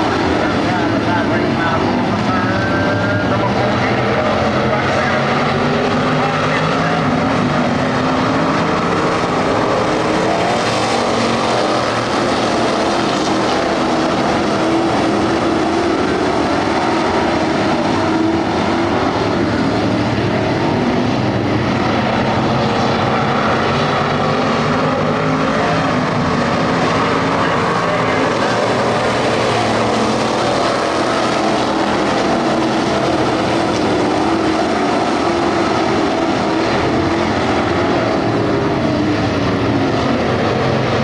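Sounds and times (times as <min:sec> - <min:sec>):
stock car engines racing: 0:00.0 - 0:41.0.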